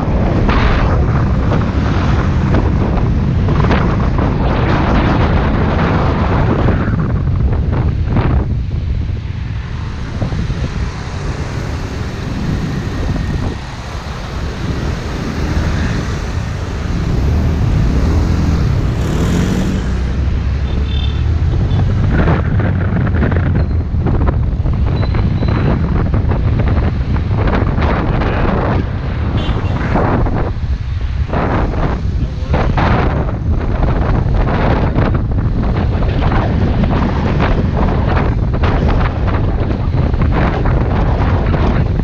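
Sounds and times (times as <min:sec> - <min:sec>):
traffic noise: 0:00.0 - 0:42.0
wind buffeting microphone: 0:00.0 - 0:42.0.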